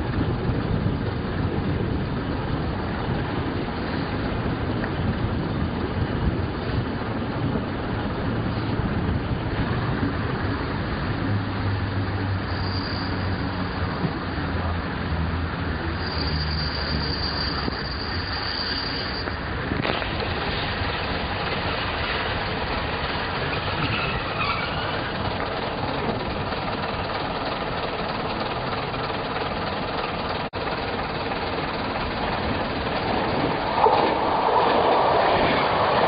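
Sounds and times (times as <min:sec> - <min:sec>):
high steady whine: 0:00.0 - 0:36.0
high-speed train passing: 0:00.0 - 0:36.0
train rolling over rails: 0:00.0 - 0:36.0.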